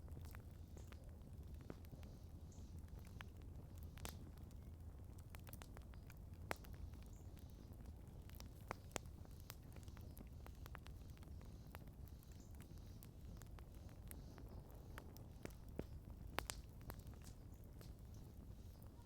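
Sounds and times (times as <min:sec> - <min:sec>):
campfire crackling and popping: 0:00.0 - 0:19.0
faint low rumble: 0:00.0 - 0:19.0.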